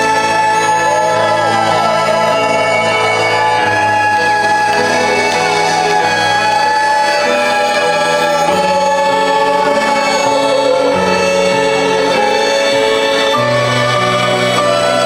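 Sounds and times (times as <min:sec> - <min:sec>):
live band music: 0:00.0 - 0:15.0
person singing long notes: 0:00.0 - 0:15.0.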